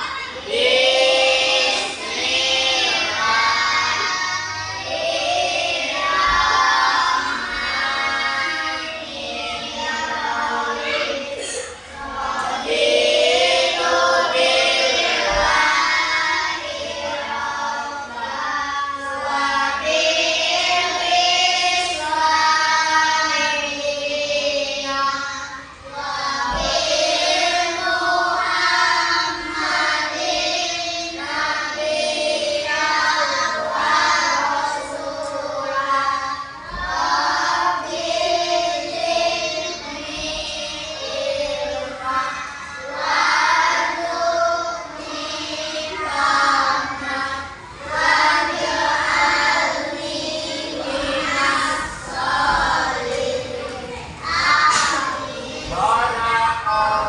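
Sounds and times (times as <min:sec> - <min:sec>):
children chanting in unison: 0:00.0 - 0:57.0.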